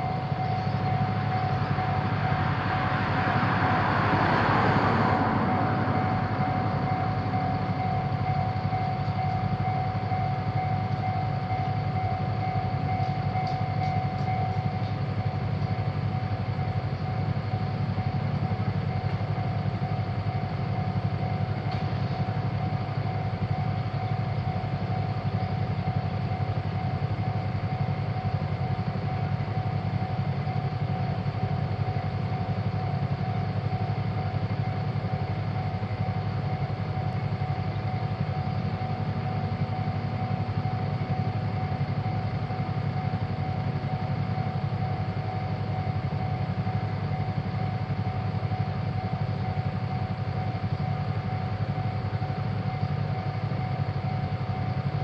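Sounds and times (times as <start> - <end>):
railroad crossing warning bell: 0.0 - 55.0.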